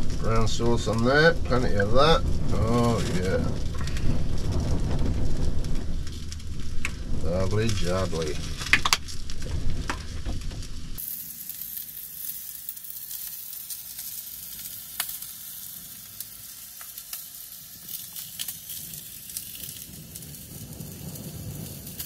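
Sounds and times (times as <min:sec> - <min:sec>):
sausages sizzling in a pan: 0:00.0 - 0:04.8, 0:05.9 - 0:22.0.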